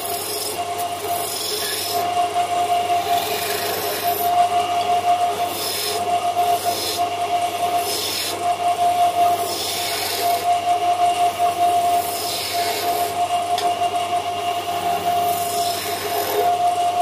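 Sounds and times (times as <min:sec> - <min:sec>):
chisel scraping spinning wood: 0:00.0 - 0:02.1, 0:02.7 - 0:10.6, 0:11.5 - 0:13.7, 0:14.6 - 0:17.0
lathe humming: 0:00.0 - 0:17.0.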